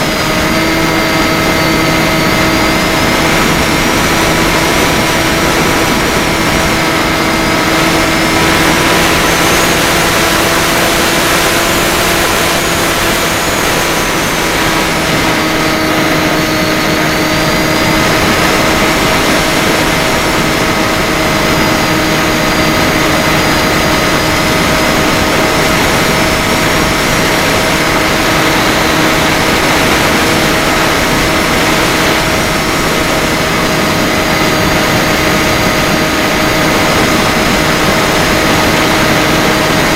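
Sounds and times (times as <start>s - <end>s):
electric motor propeller whine: 0.0s - 39.9s
rushing air: 0.0s - 39.9s.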